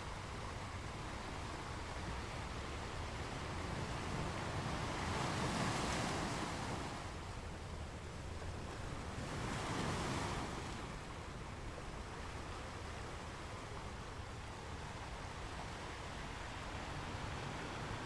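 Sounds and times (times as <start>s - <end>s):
ocean waves washing onto beach: 0.0s - 18.0s.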